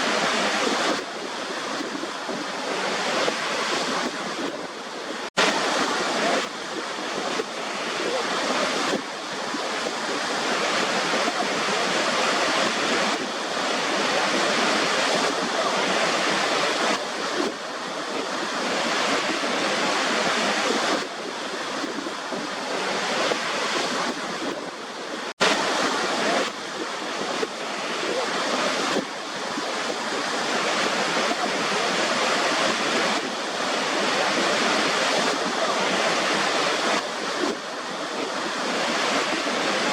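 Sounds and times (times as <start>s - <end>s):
rushing white noise: 0.0s - 39.9s.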